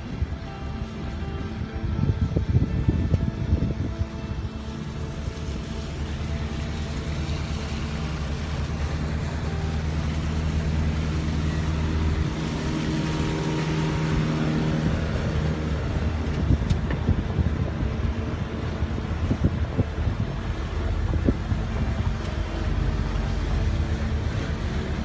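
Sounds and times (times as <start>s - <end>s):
boat diesel engine running: 0.0s - 25.0s
water washing along the hull: 0.0s - 25.0s.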